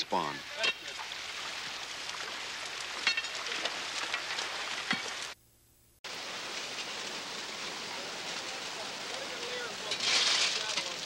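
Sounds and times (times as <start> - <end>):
water running over rocks: 0.0 - 5.4, 6.1 - 11.0.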